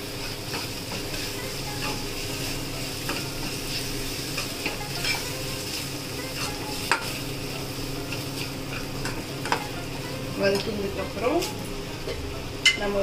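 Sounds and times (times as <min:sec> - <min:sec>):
onions sizzling in hot oil: 0:00.0 - 0:13.0
metal spoon stirring and scraping: 0:00.2 - 0:11.1.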